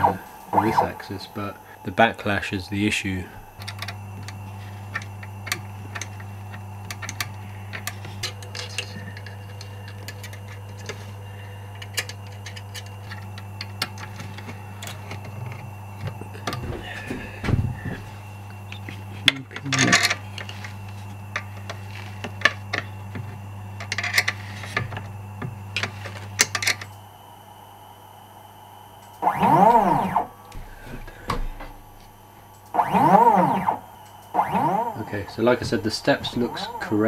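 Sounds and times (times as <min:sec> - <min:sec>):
steady low hum: 0:00.0 - 0:37.0
stepper motor whine: 0:00.0 - 0:37.0.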